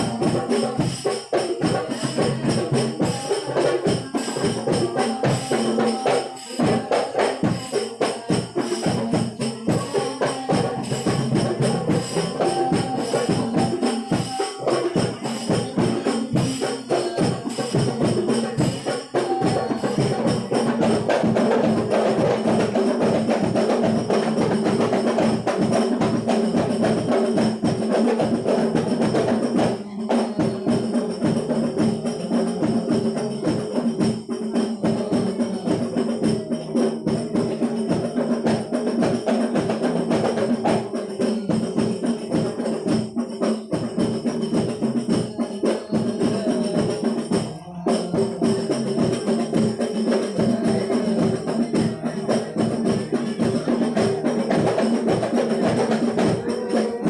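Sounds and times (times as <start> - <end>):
frame drums playing rhythm: 0.0 - 57.0.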